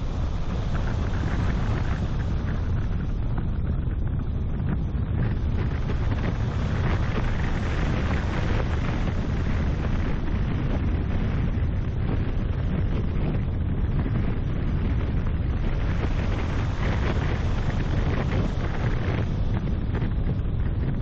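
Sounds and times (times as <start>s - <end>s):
road and engine noise: 0.0s - 21.0s
wind buffeting microphone: 0.0s - 21.0s.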